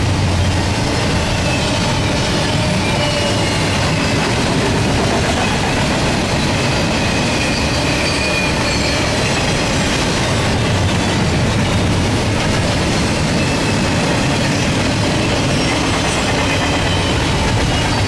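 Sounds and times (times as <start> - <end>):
train wheels rumbling on rails: 0.0 - 18.0
high wheel squeal: 1.3 - 11.9, 13.4 - 18.0.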